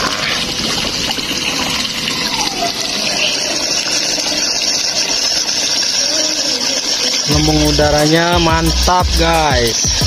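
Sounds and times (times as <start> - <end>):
water gushing and bubbling: 0.0 - 10.0.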